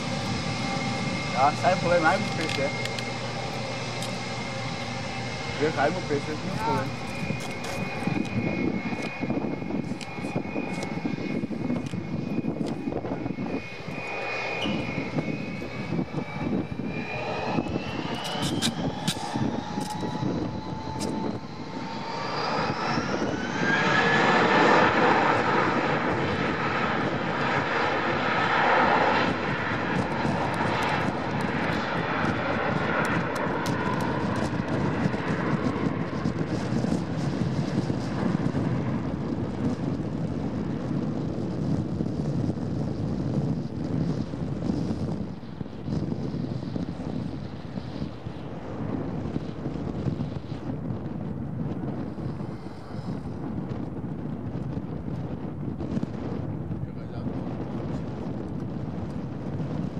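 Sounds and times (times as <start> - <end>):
jet engine spooling up: 0.0 - 57.2
jet engines whining: 0.0 - 59.9.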